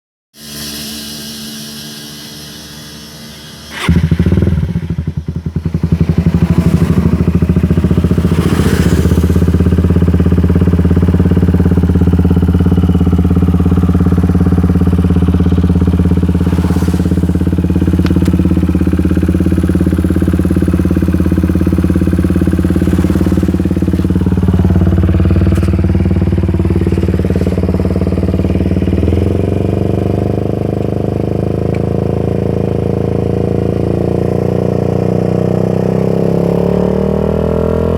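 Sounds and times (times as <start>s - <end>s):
motorcycle engine idling: 1.5s - 35.3s.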